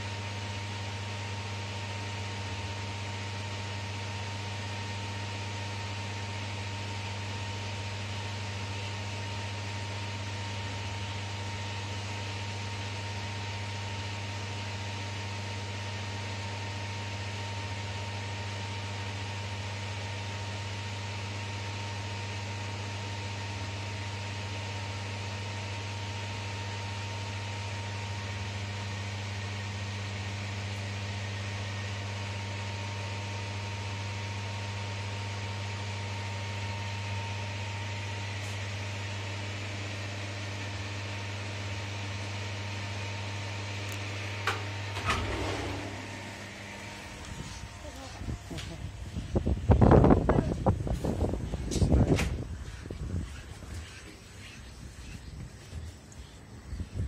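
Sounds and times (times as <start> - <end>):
fan whirring: 0.0 - 57.0
low electrical hum: 0.0 - 57.0.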